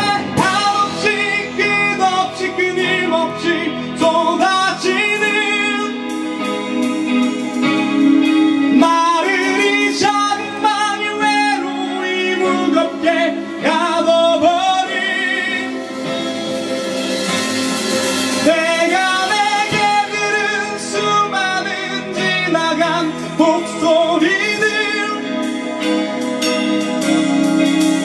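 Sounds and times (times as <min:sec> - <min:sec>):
man singing: 0:00.0 - 0:07.2, 0:08.2 - 0:28.0
drums: 0:00.0 - 0:28.0
electric guitar: 0:00.0 - 0:28.0.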